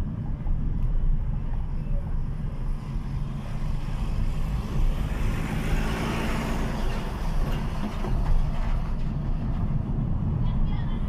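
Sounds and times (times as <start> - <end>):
car engine and road rumble: 0.0 - 11.0
passing vehicle: 0.0 - 11.0.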